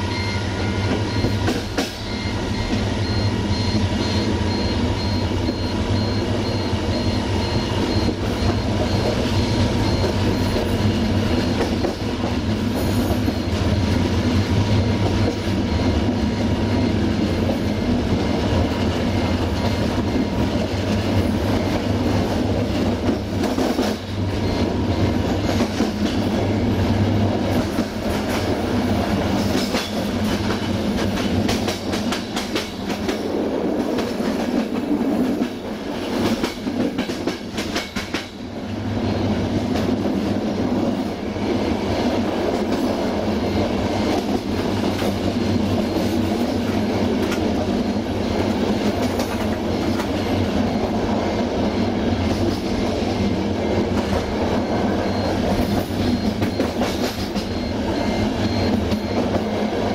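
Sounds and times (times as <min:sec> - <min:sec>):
clickety-clack of rail joints: 0:00.0 - 0:59.9
train wheels rumbling on rails: 0:00.0 - 0:59.9.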